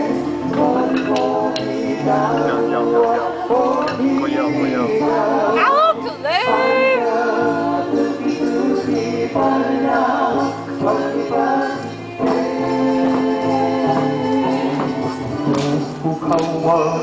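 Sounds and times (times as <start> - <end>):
group of voices singing: 0.0 - 17.0.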